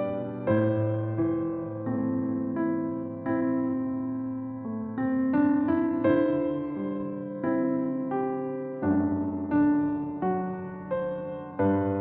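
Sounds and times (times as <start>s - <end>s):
gentle electric piano hymn: 0.0s - 12.0s.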